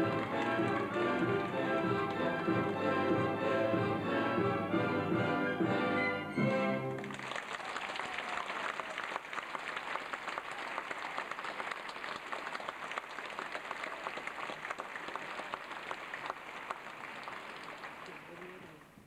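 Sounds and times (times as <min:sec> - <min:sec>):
audience applauding: 0:00.0 - 0:03.1, 0:06.8 - 0:19.0.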